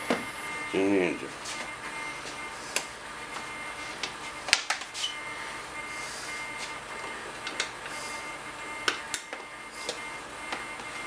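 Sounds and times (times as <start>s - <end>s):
electric fuel pump whirring: 0.0s - 11.0s.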